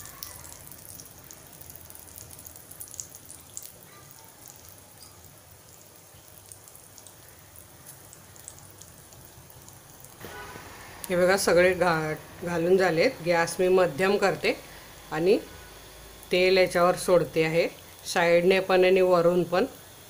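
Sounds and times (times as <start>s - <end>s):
food crackling and sizzling in oil: 0.0s - 20.0s.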